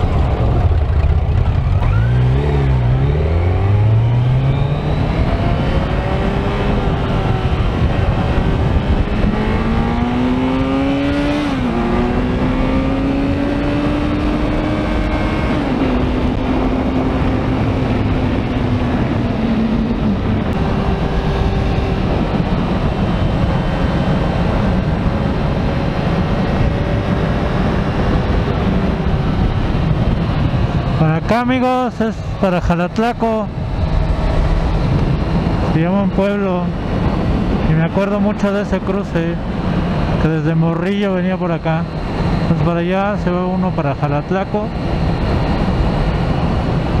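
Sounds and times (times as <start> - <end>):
motorcycle engine accelerating: 0.0 - 47.0
wind and road noise: 0.0 - 47.0.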